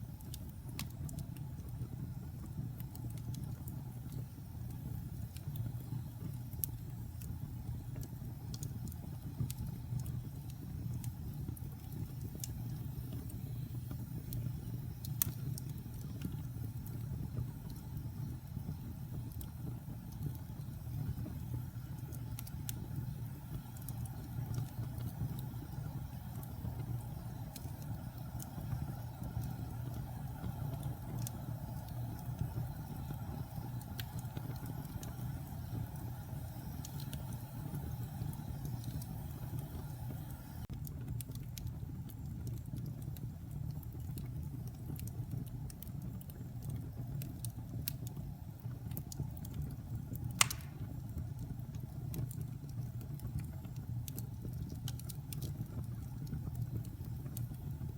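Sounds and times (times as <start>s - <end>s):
low rumble of flames: 0.0s - 57.9s
wood crackling and popping: 0.0s - 57.9s.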